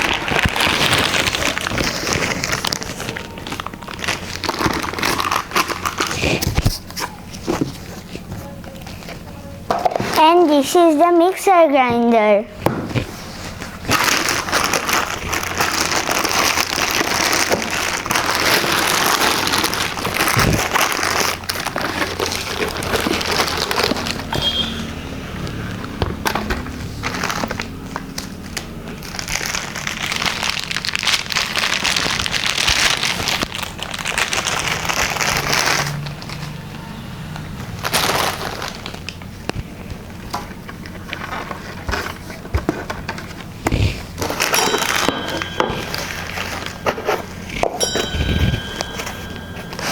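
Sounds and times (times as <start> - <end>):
plastic packaging crinkling: 0.0 - 10.9, 13.0 - 49.9.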